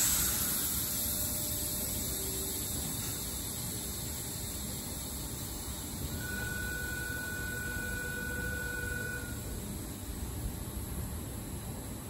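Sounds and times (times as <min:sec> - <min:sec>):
high whine: 0:00.0 - 0:11.1
electric train hissing hum: 0:00.0 - 0:12.0.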